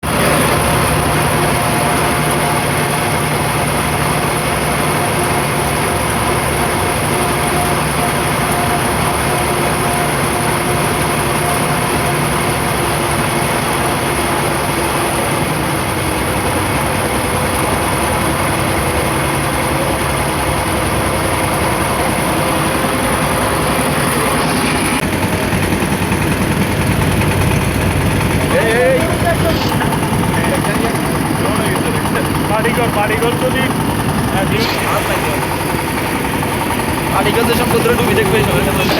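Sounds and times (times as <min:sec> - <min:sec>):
vehicle engine humming: 0:00.0 - 0:38.9.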